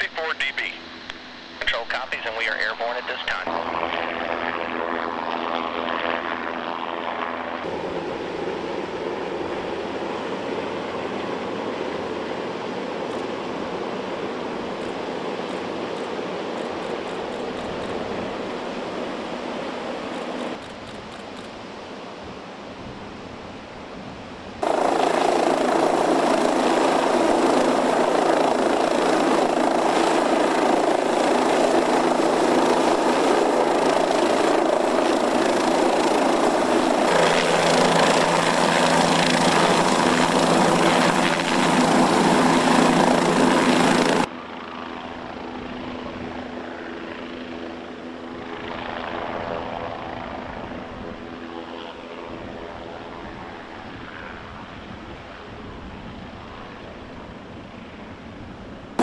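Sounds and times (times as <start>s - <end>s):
helicopter turbine and rotor noise: 0.0s - 59.0s.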